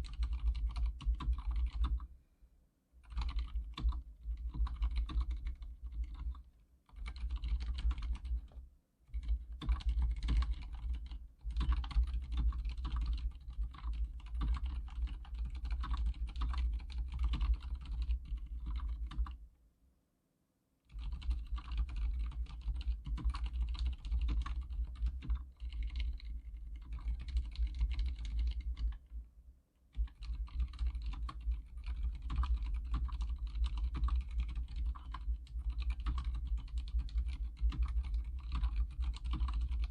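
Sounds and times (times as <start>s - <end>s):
typing on mechanical keyboard: 0.0s - 2.1s, 3.0s - 19.4s, 20.9s - 29.1s, 29.9s - 39.9s.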